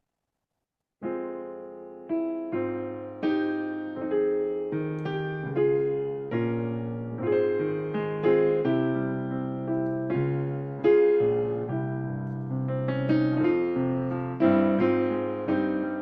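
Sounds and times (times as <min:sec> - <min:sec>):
piano chords ringing: 0:01.0 - 0:16.0.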